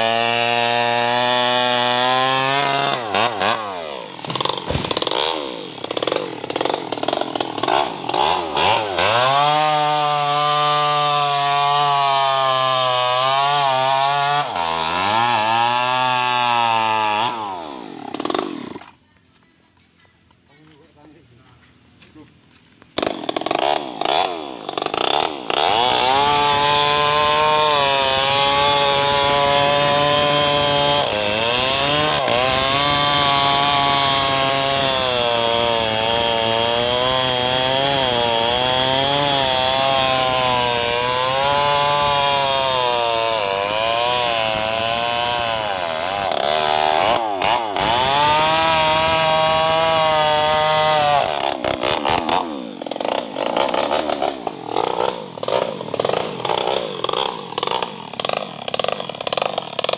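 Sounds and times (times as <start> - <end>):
chainsaw cutting log: 0.0 - 19.0, 22.6 - 59.9.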